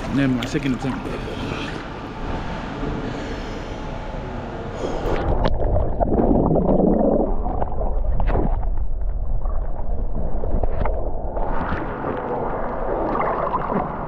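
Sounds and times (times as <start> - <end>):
water sloshing and churning: 0.0 - 14.0.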